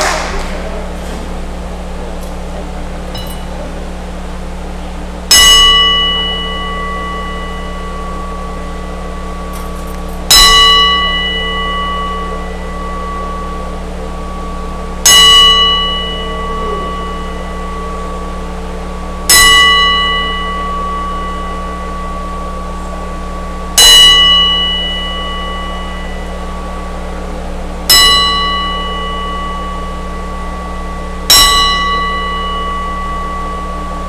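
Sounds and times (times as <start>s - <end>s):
ring bell struck: 1.6s - 34.0s.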